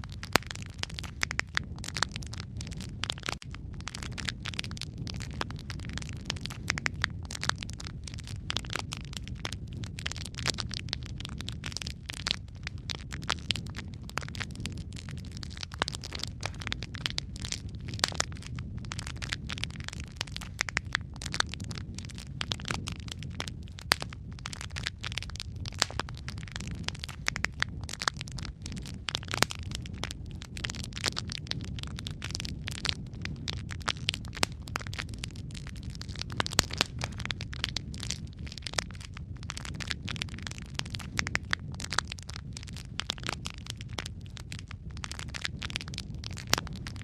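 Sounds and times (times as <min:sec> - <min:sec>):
fire popping and snapping: 0:00.0 - 0:47.0
flames rumbling: 0:00.0 - 0:47.0.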